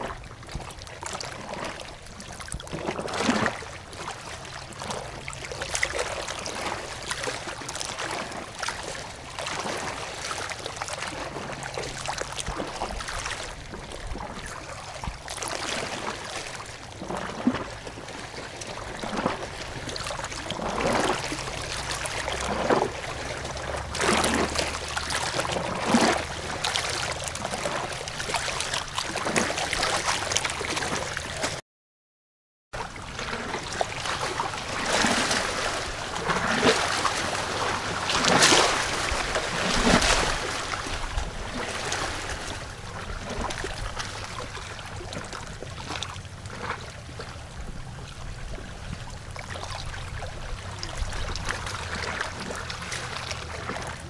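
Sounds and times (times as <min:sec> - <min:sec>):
running water splashing and gurgling: 0:00.0 - 0:31.6, 0:32.8 - 0:54.0.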